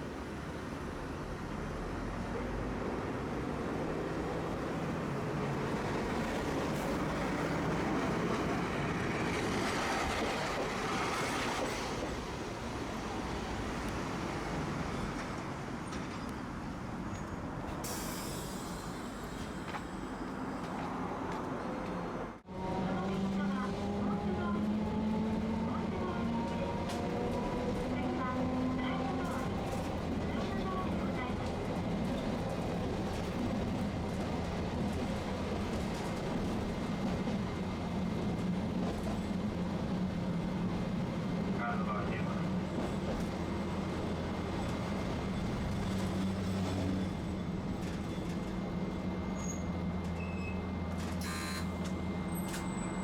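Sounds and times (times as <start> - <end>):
streetcar rumbling on rails: 0.0 - 53.0.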